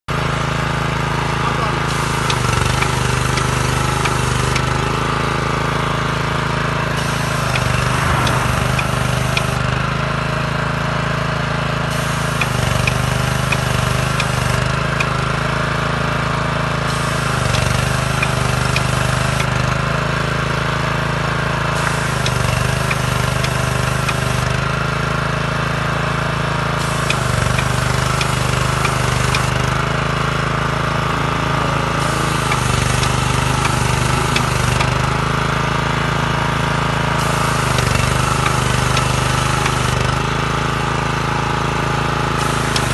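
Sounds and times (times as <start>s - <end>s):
small petrol engine running: 0.1s - 42.9s.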